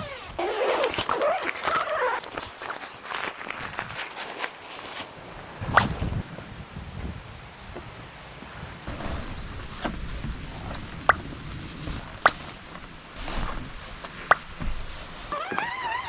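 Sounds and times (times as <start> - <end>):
tent being handled: 0.0 - 6.5, 8.9 - 16.0.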